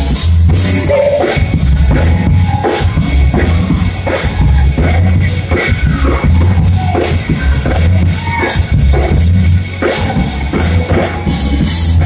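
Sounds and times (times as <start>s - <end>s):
deep bass notes: 0.0s - 12.0s
drum kit: 0.0s - 12.0s
live band music: 0.0s - 12.0s.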